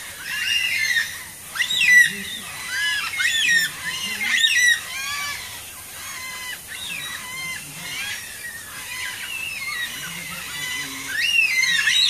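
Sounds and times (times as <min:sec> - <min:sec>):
flock of cockatoos calling: 0:00.0 - 0:12.0.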